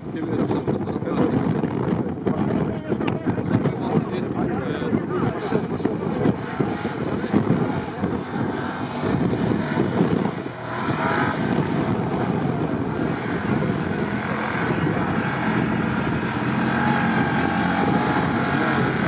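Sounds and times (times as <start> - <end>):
wind buffeting microphone: 0.0 - 19.0
engine running under load: 3.2 - 19.0.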